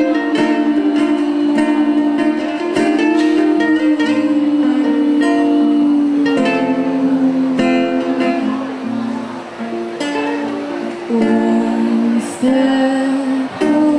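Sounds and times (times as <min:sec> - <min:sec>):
guitar: 0:00.0 - 0:13.9
ukulele: 0:00.0 - 0:13.9.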